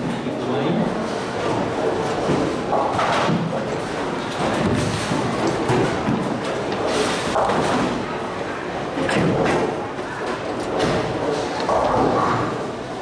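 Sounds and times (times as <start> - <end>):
bowling balls rolling: 0.9 - 13.0.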